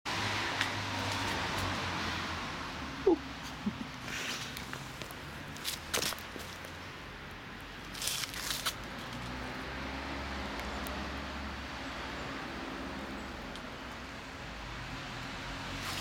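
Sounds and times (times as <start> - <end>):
outdoor background noise: 0.1 - 16.0.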